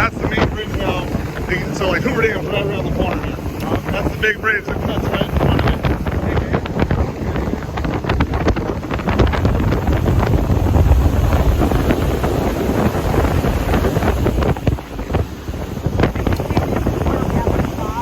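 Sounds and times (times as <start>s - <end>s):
boat engine rumble: 0.0s - 18.0s
rushing water: 0.0s - 18.0s
wind buffeting microphone: 0.0s - 18.0s.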